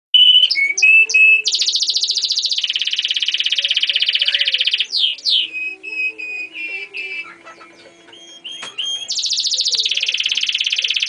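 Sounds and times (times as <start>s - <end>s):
canary singing trills: 0.2s - 11.0s.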